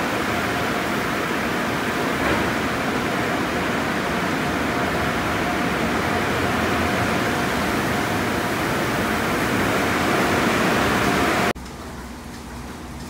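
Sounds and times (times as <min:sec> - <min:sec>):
car wash brushes rushing: 0:00.0 - 0:11.5.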